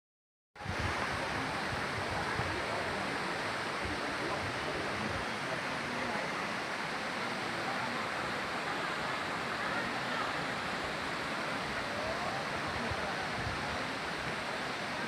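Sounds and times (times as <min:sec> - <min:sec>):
waterfall rushing: 0:00.6 - 0:15.0.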